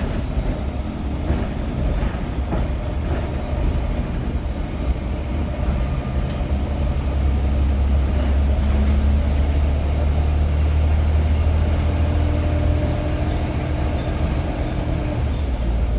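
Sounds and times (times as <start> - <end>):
diesel bus engine drone: 0.0 - 15.9.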